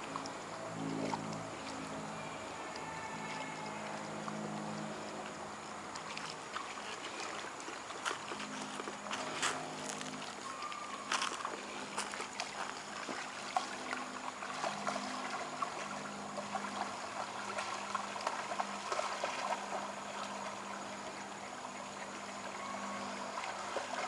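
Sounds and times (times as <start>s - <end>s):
creek water trickling: 0.0s - 24.0s
faint low hum: 0.0s - 24.0s
water splashes and drips: 0.0s - 24.0s.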